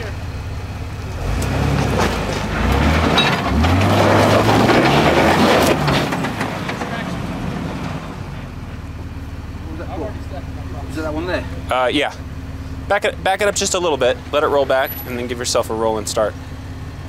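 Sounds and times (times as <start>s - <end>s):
off-road engine revving: 0.0s - 17.0s.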